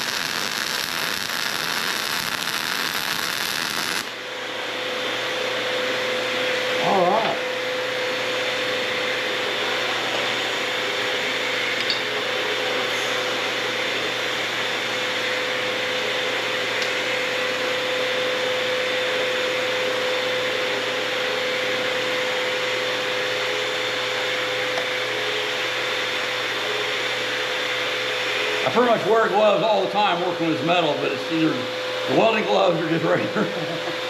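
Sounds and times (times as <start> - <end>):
machine whirring hum: 0.0 - 34.0.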